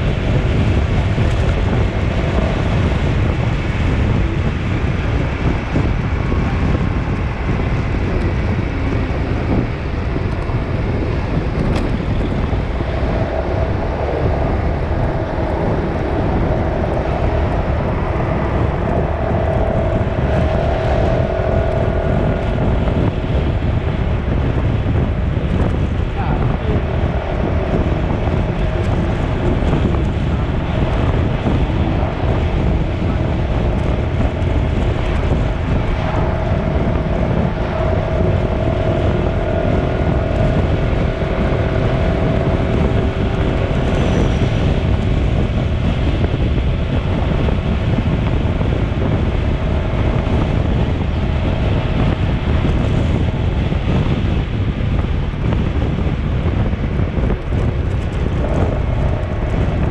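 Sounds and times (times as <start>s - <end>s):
low rumble: 0.0s - 59.9s
wind noise on microphone: 0.0s - 59.9s.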